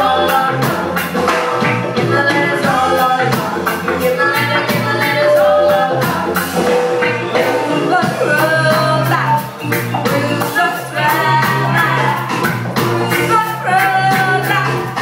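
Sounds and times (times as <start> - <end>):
bass line: 0.0 - 15.0
drum kit with cymbals: 0.0 - 15.0
electric guitar: 0.0 - 15.0
woman singing: 0.0 - 15.0.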